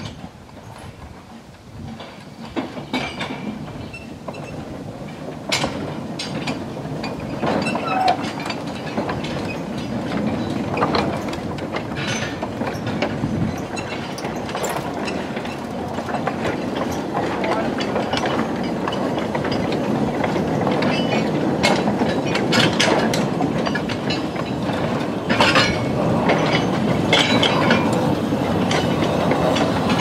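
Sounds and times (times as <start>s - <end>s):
train wheels clicking over rail joints: 0.0s - 30.0s
wagons clanking: 0.0s - 30.0s.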